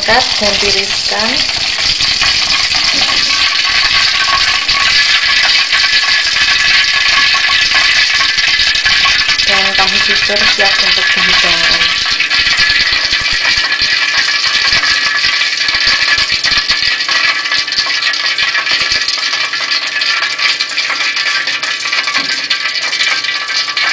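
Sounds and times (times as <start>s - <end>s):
oil sizzling in a wok: 0.0s - 23.9s.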